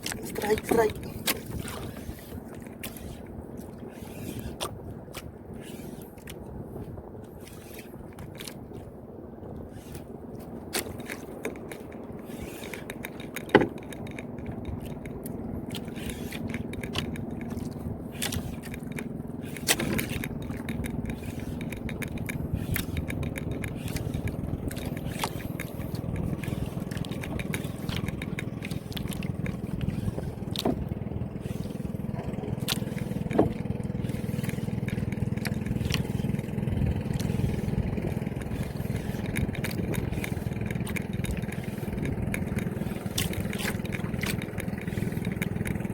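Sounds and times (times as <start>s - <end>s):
sharp clicks and scraping: 0.0s - 6.4s, 9.6s - 45.9s
boat engine running: 0.0s - 45.9s.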